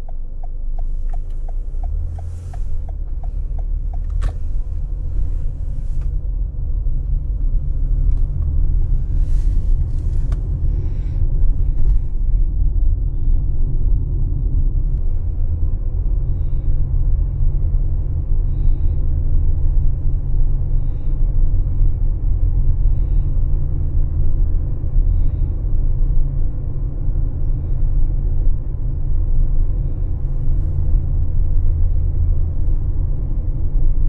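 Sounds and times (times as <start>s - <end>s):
car driving low rumble: 0.0s - 34.0s.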